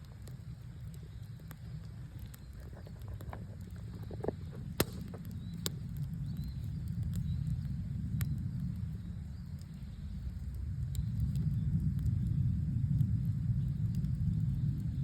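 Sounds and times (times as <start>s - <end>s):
campfire crackling and popping: 0.0s - 15.0s
steady low rumble: 0.0s - 15.0s.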